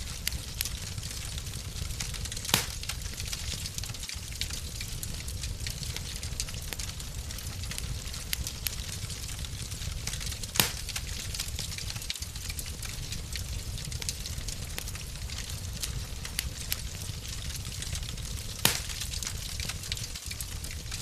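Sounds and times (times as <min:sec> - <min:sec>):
fire popping loudly: 0:00.0 - 0:21.0
wood fire crackling: 0:00.0 - 0:21.0.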